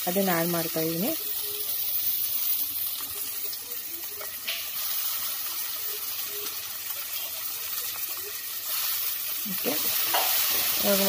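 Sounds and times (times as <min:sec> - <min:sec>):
onions and tomatoes sizzling: 0:00.0 - 0:11.0.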